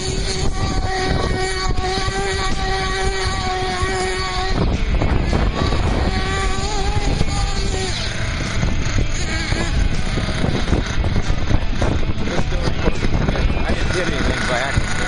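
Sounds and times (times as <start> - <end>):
small engine whining at high revs: 0.0 - 15.0.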